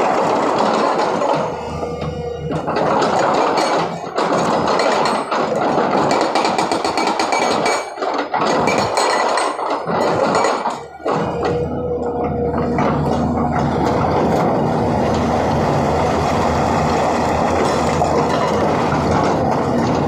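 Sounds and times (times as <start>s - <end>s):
hydraulic breaker hammering rock: 0.0s - 20.0s.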